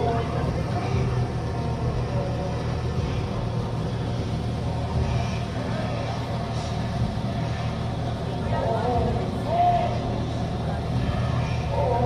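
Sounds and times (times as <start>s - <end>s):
faint murmur of voices: 0.0s - 12.0s
steady low rumble: 0.0s - 12.0s.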